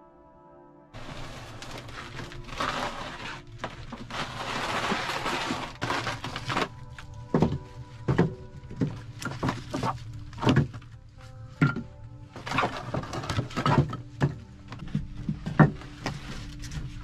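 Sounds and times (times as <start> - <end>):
firewood logs clattering: 1.0 - 17.0.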